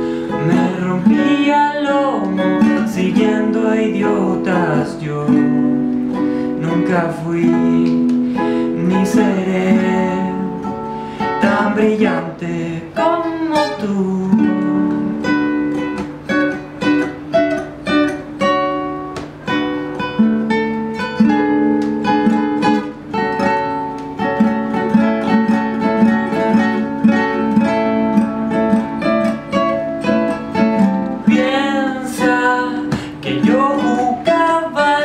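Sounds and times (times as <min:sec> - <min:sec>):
acoustic guitar picked and strummed: 0:00.0 - 0:35.0.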